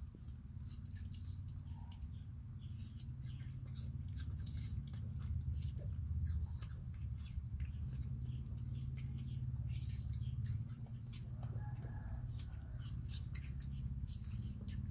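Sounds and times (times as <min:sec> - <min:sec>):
monkeys chewing fruit: 0:00.0 - 0:14.9
steady low hum: 0:00.0 - 0:14.9.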